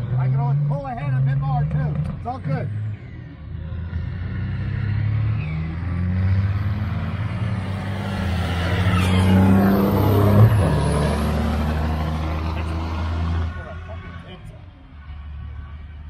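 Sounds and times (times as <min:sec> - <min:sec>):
diesel truck engines racing: 0:00.0 - 0:16.0.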